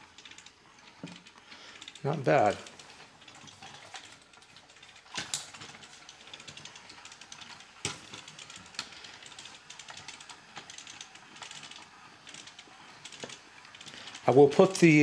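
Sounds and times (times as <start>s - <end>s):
toy robot motor ticking: 0.0s - 15.0s.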